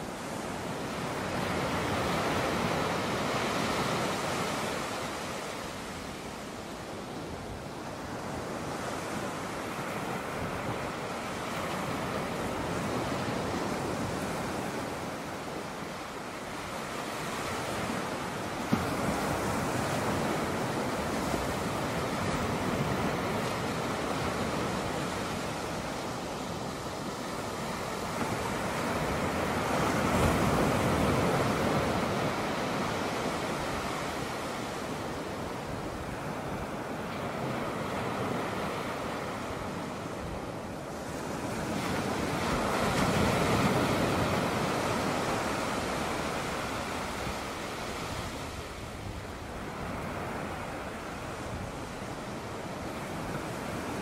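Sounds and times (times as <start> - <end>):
ocean surf breaking: 7.9 - 54.0.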